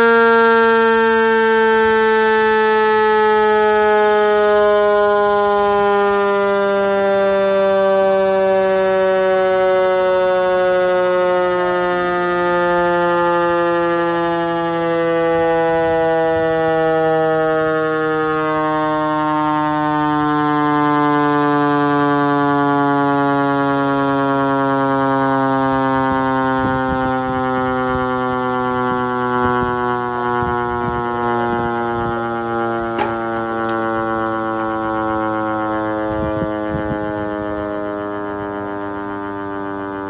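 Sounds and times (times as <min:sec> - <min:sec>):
mechanical siren winding down: 0:00.0 - 0:40.0.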